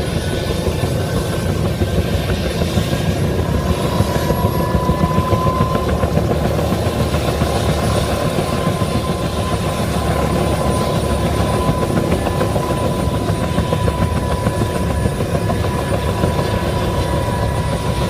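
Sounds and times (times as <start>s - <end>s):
helicopter high whine: 0.0s - 18.0s
helicopter rotor beating: 0.0s - 18.0s.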